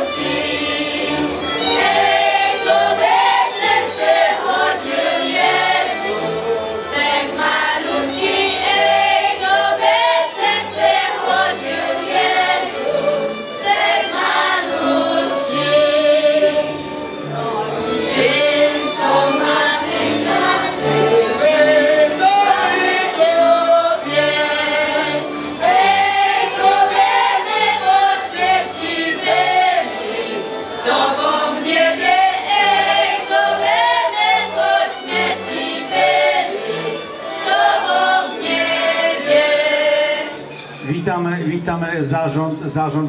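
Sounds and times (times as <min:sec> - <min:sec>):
girls' choir singing: 0:00.0 - 0:40.6
fiddles playing: 0:00.0 - 0:43.0.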